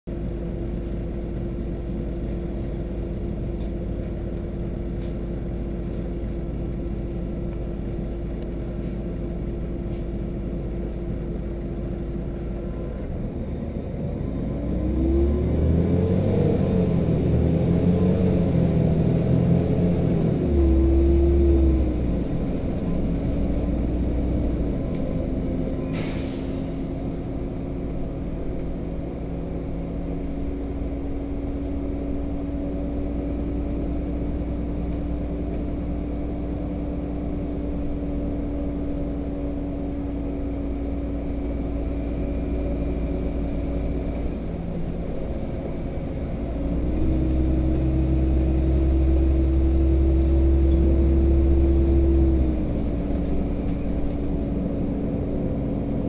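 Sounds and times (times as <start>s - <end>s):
bus engine humming: 0.1s - 56.0s
road noise: 0.1s - 56.0s.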